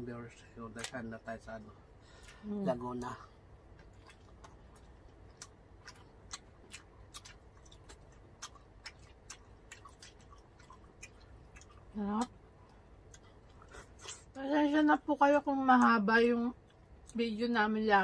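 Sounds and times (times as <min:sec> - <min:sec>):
people chewing food: 0:00.3 - 0:17.4.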